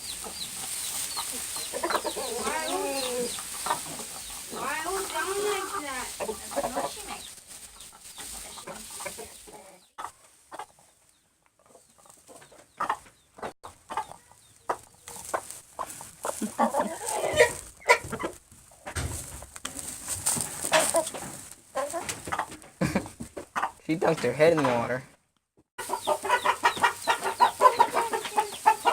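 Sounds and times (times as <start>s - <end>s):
chickens clucking and growling: 0.0s - 25.0s, 25.8s - 28.9s.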